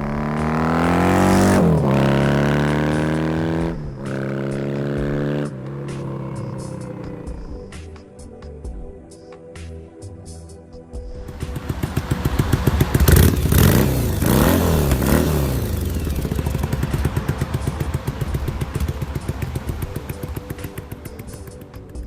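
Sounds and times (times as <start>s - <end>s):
motorcycle engine revving and idling: 0.0s - 7.8s, 11.3s - 22.0s.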